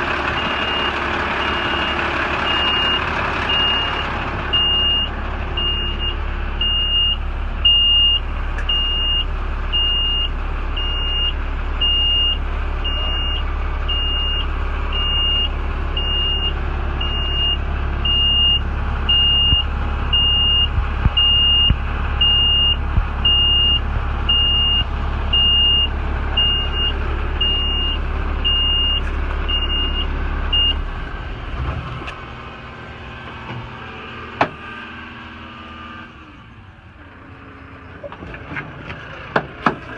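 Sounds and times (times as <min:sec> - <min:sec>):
truck backup alarm beeping: 0:00.0 - 0:32.1
diesel engine idling: 0:00.0 - 0:39.9.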